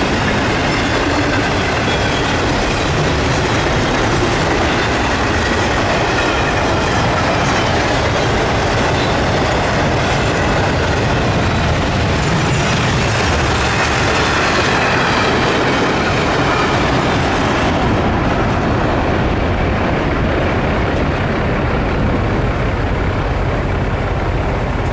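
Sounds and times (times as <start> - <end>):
train wheels running on rails: 0.0 - 24.9.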